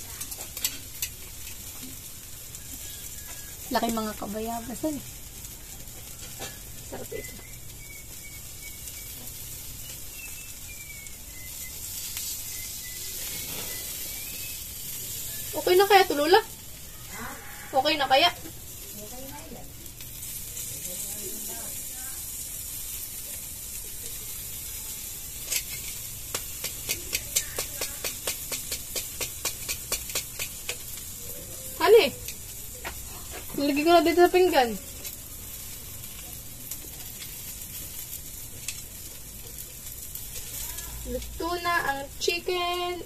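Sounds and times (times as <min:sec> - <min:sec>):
chicken sizzling on a grill: 0:00.0 - 0:43.0.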